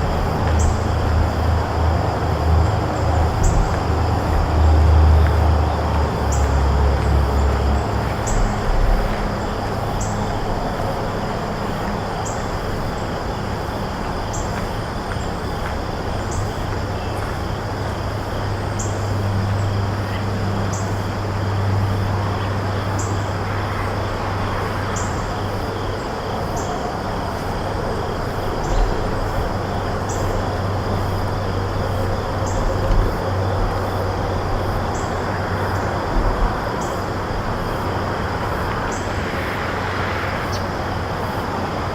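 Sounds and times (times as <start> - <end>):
distant road traffic rumble: 0.0 - 41.9.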